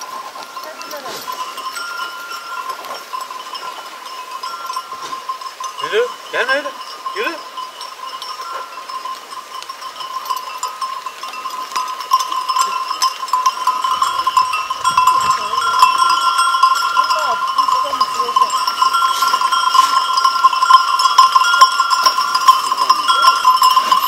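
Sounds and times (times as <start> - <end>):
sheep bells clinking: 0.0 - 24.0.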